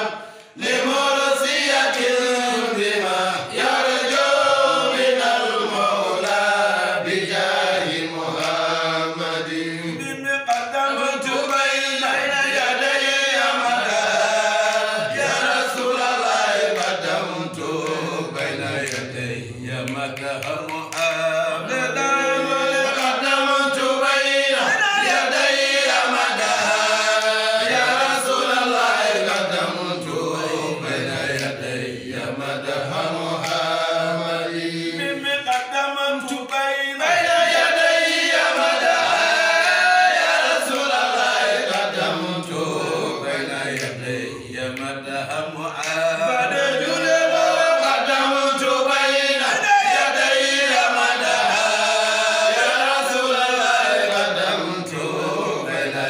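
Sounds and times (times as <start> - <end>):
men chanting together: 0.0 - 56.0.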